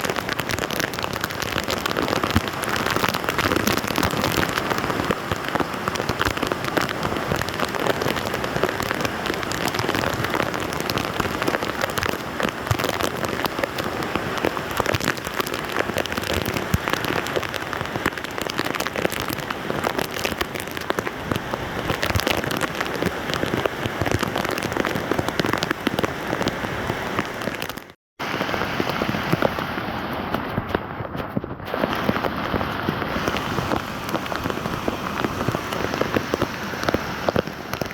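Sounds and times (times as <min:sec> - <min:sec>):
heavy rain on flooded street: 0:00.0 - 0:37.9.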